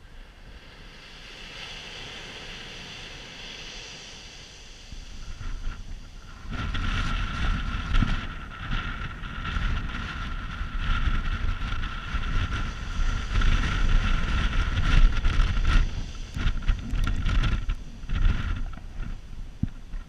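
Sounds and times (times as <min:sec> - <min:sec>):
surf breaking on the shore: 0:00.0 - 0:20.0
wind buffeting the microphone: 0:00.0 - 0:20.0.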